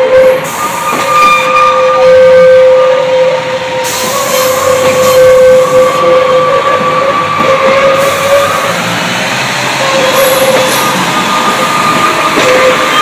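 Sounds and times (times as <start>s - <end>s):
diesel train moving slowly: 0.0s - 13.0s.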